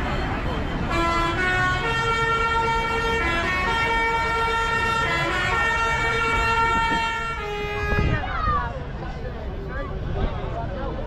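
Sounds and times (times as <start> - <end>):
engines passing: 0.0 - 11.0.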